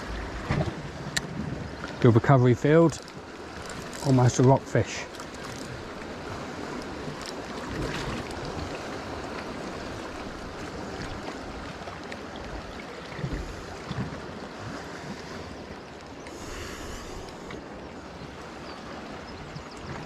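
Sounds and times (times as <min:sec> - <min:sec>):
sea surf washing among rocks: 0:00.0 - 0:19.3.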